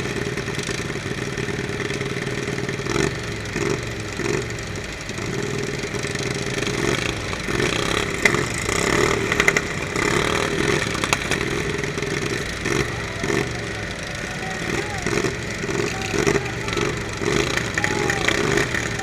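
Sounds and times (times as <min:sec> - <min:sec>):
lawn mower engines revving: 0:00.0 - 0:19.0.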